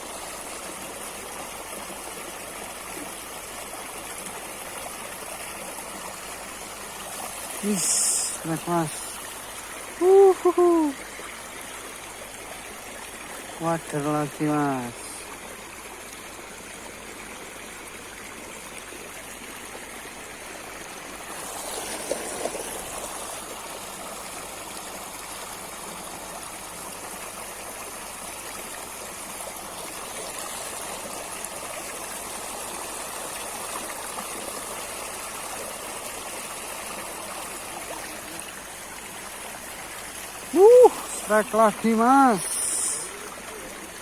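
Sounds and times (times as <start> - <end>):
river water flowing: 0.0 - 44.0.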